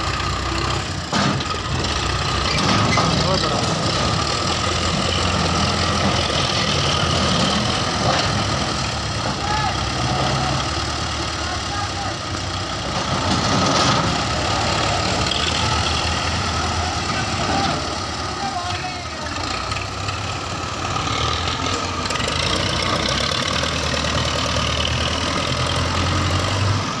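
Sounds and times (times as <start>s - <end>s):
diesel tractor engines idling: 0.0s - 27.0s.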